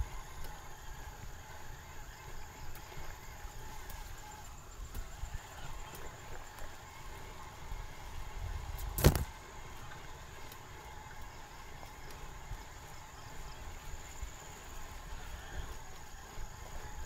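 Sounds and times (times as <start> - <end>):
wind and tyre rumble: 0.0 - 17.0.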